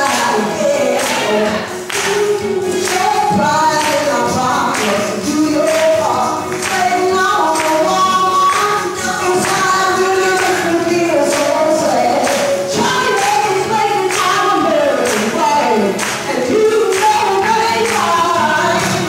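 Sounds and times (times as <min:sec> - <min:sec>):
woman singing into a microphone: 0:00.0 - 0:19.0.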